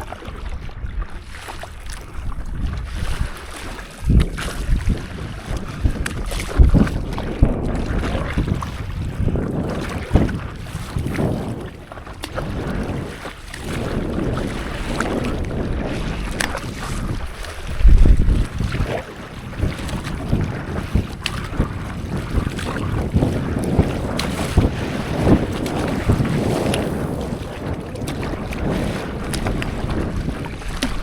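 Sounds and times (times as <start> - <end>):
low water surges: 0.0 - 31.0
paddle strokes: 0.0 - 31.0
water splashing and sloshing: 0.0 - 31.0
wind buffeting microphone: 0.0 - 31.0.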